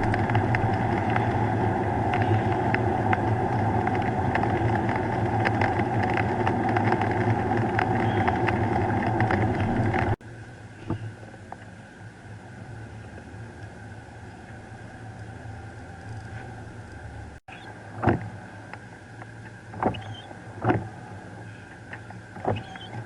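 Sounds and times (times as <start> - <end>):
car engine and road noise: 0.0 - 23.0
quiet hum: 0.0 - 23.0.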